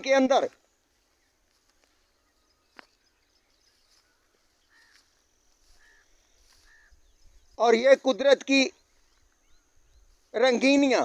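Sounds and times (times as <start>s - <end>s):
faint bird chirps: 0.5s - 10.8s.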